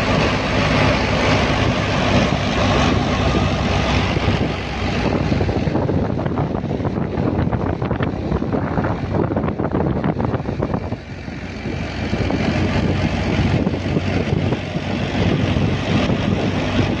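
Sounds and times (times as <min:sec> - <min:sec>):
thresher mechanical drone: 0:00.0 - 0:17.0.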